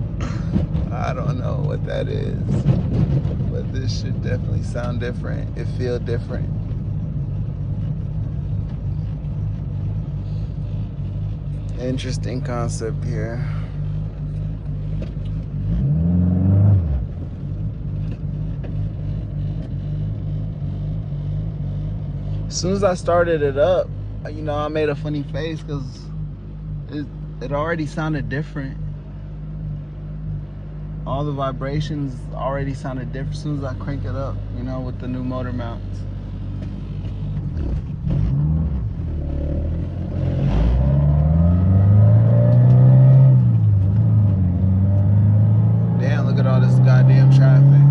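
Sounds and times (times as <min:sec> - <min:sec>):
car engine droning in cabin: 0:00.0 - 0:47.9.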